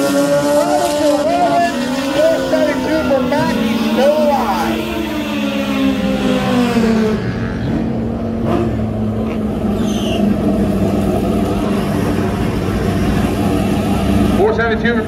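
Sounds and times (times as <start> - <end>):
motorcycle engines racing: 0.0 - 15.0.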